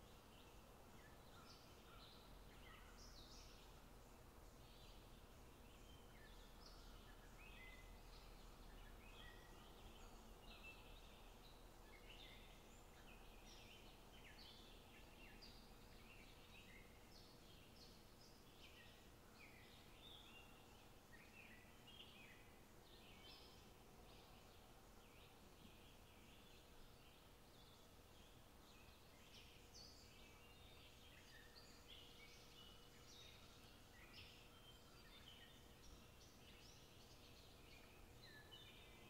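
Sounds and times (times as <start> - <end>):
faint birds chirping: 0.0 - 39.0.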